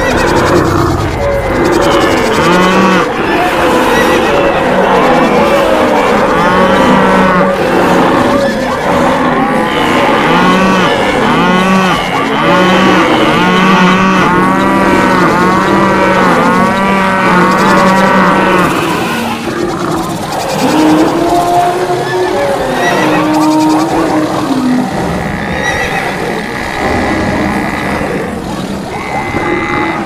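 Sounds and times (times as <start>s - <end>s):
cattle mooing: 0.0s - 30.0s.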